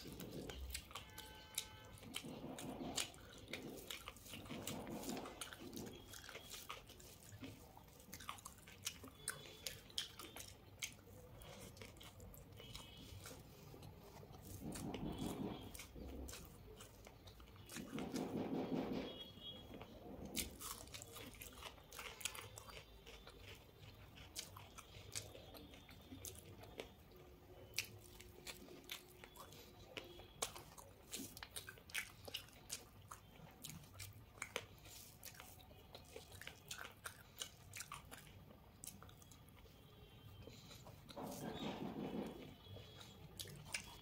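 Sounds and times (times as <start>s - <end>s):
person chewing crunchy food: 0.0s - 44.0s.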